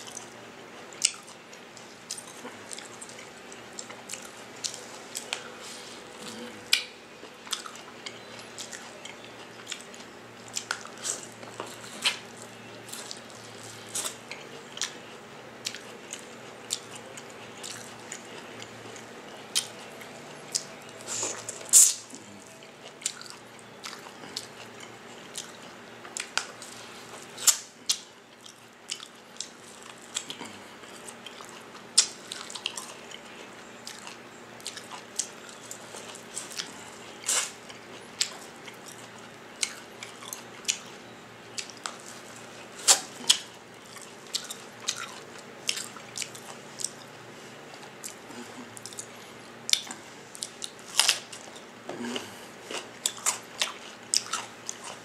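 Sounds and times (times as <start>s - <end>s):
wet chewing and lip-smacking: 0.0s - 5.5s, 6.2s - 47.1s, 47.7s - 55.0s.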